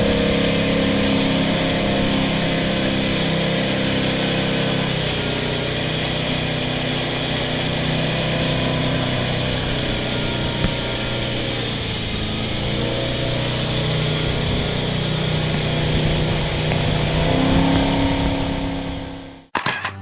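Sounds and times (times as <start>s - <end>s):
jet boat engine running: 0.0s - 19.5s.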